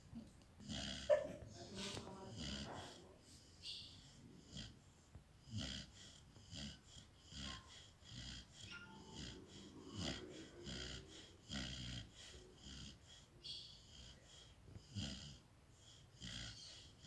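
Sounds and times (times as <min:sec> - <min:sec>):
puppy snoring: 0:00.6 - 0:17.0.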